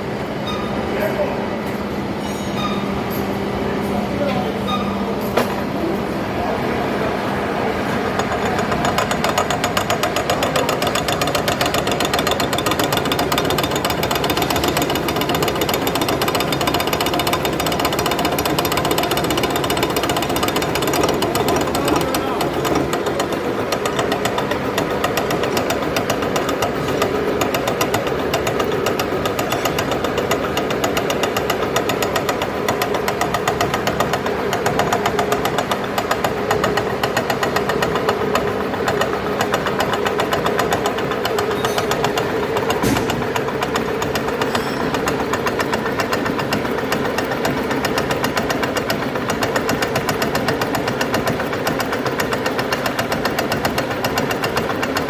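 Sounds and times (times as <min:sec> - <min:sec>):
cultivator engine knocking: 0:07.9 - 0:55.0.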